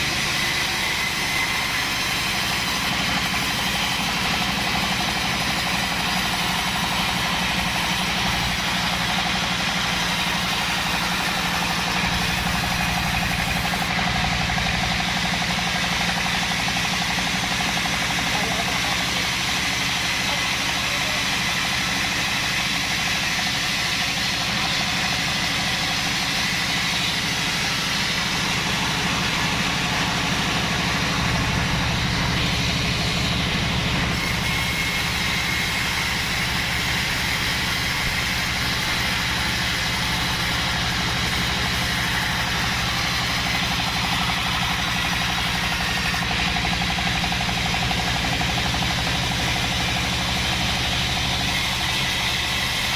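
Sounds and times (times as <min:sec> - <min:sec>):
saw blade hissing through wood: 0:00.0 - 0:52.9
sawmill motor droning: 0:00.0 - 0:52.9.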